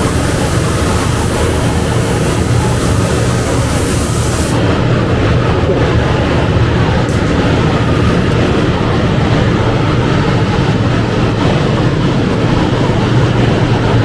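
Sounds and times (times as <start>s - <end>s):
ventilation rumble with rushing air: 0.0s - 14.0s.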